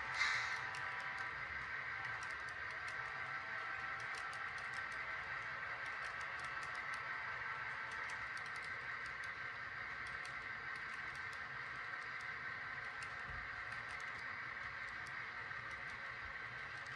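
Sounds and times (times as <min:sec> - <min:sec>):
model train wheels whirring: 0:00.0 - 0:16.9.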